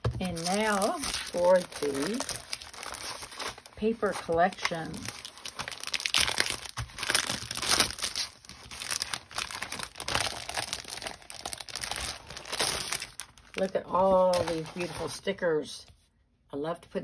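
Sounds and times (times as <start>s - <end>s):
plastic sleeve crinkling: 0.0s - 15.3s.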